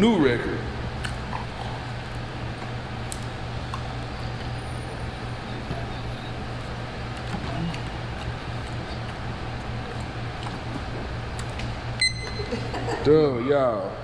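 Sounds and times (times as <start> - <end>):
background hum and rumble: 0.0 - 14.0.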